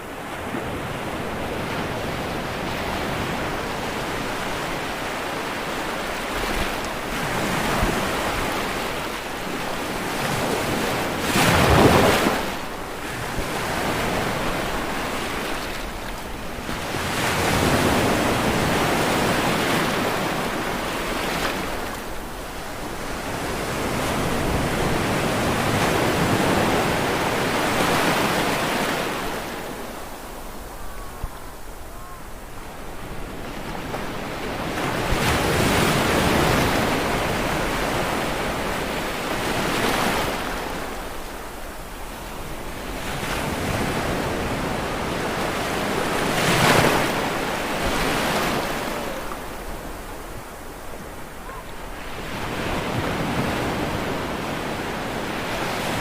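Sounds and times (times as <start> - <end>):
sea waves breaking ashore: 0.0 - 56.0.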